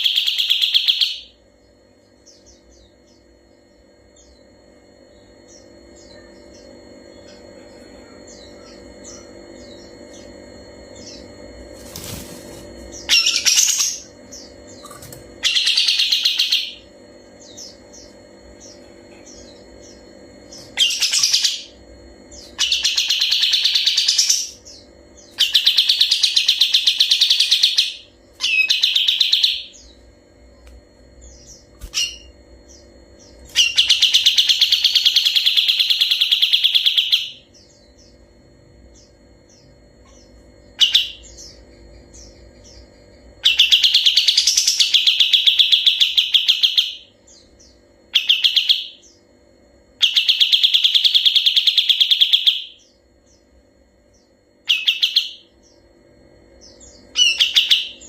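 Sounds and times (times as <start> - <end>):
bird singing rapid rattling trills: 0.0 - 58.0.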